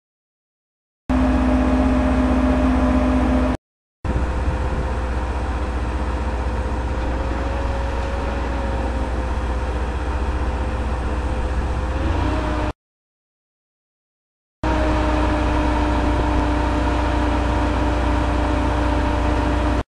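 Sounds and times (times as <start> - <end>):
steady mechanical whine: 1.1 - 12.7, 14.6 - 19.8
drilling rig engine drone: 1.1 - 12.8, 14.6 - 19.8.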